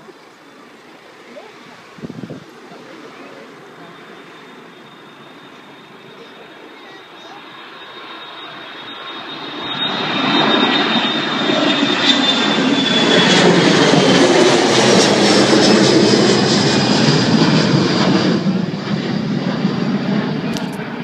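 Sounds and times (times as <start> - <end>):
airliner engines roaring: 0.0 - 21.0.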